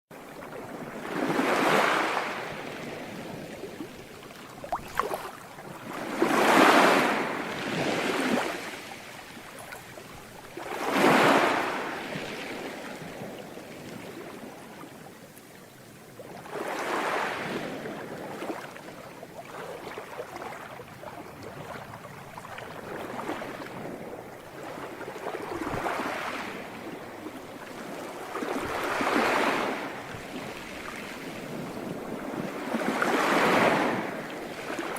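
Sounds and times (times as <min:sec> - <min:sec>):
sea waves breaking on shore: 0:00.1 - 0:34.9.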